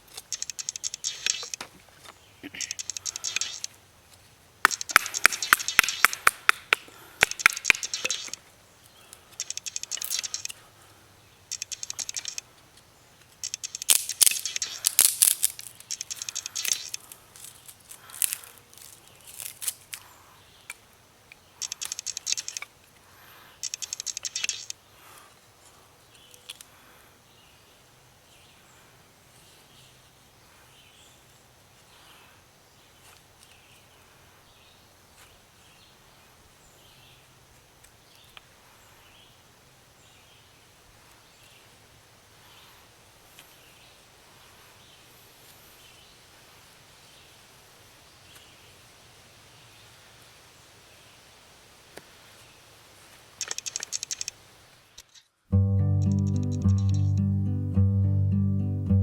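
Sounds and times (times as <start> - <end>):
faint outdoor background: 0.0 - 59.0.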